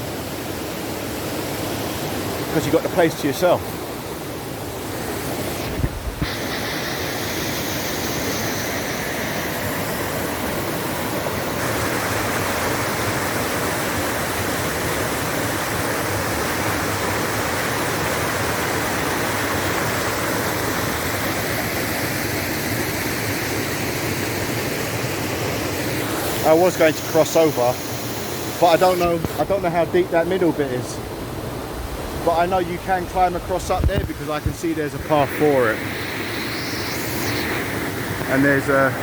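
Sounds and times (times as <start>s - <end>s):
waterfall rushing: 1.3s - 39.0s.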